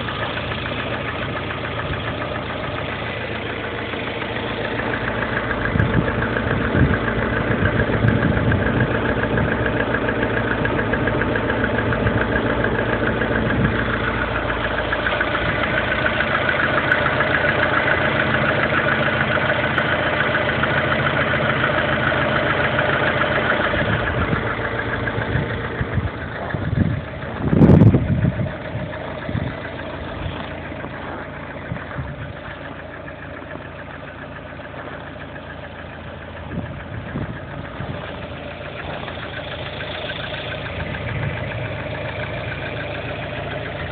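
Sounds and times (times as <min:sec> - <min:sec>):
car engine running with knock: 0:00.0 - 0:43.9.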